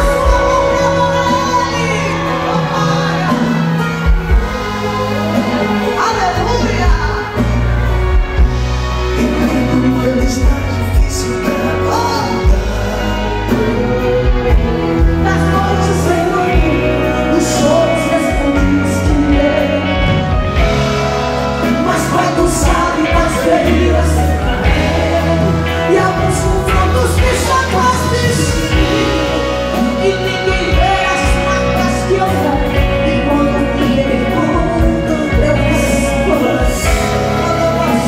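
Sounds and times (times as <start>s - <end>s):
woman singing into a microphone: 0.0s - 3.8s, 9.2s - 20.7s, 21.6s - 38.0s
gospel band with drums: 0.0s - 38.0s.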